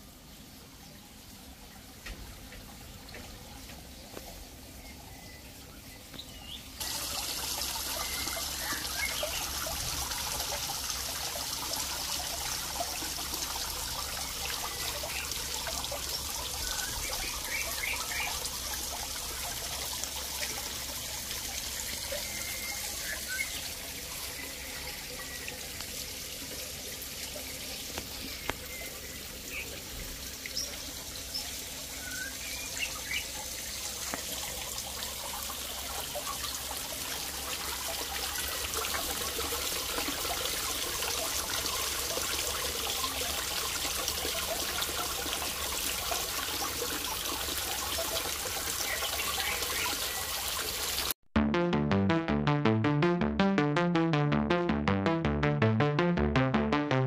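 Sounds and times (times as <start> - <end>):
water trickling and splashing: 0.0 - 51.2.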